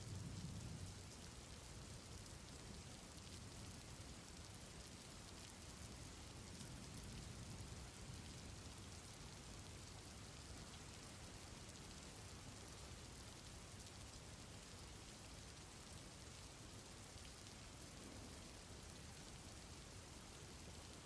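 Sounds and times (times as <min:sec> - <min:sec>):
rain hiss and drop patter: 0:00.0 - 0:21.0.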